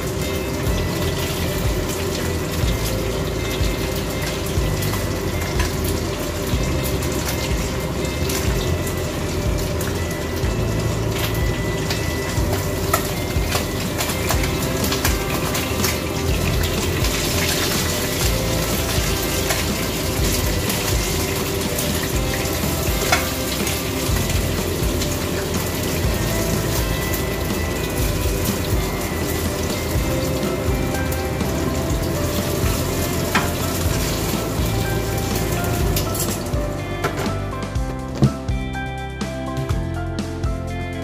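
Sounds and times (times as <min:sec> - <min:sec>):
fish sizzling in oil: 0:00.0 - 0:38.2
background music: 0:00.0 - 0:41.0.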